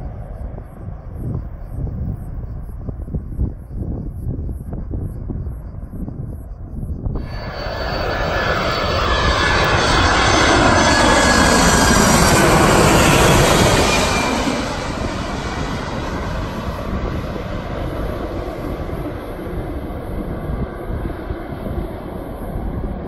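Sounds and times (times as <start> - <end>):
jet airliner passing overhead: 0.0 - 3.4, 7.1 - 23.0.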